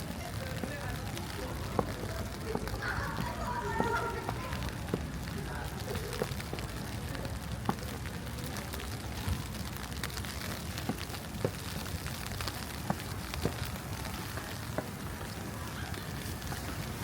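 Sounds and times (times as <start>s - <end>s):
wet street hiss: 0.0s - 17.0s.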